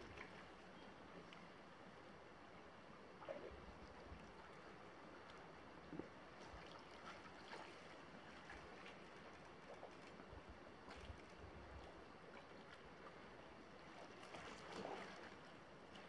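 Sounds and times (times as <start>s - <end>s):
faint river water: 0.0s - 16.0s.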